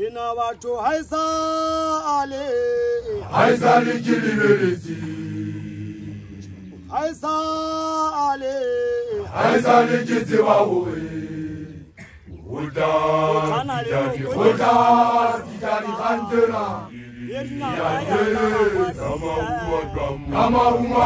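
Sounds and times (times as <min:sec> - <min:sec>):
man chanting a long call: 0:00.0 - 0:10.9, 0:12.6 - 0:21.0
group of men singing: 0:02.4 - 0:21.0.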